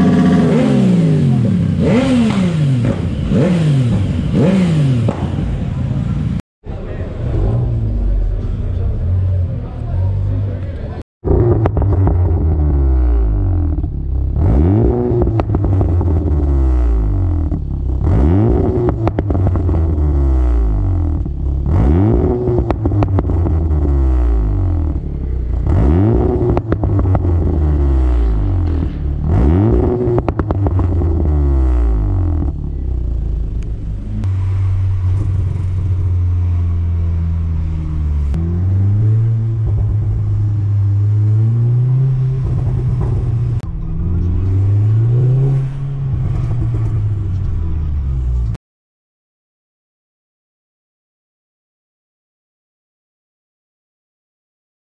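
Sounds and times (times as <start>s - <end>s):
car engine revving and popping: 0.0s - 5.8s, 7.2s - 48.6s
car engine while driving: 0.0s - 48.6s.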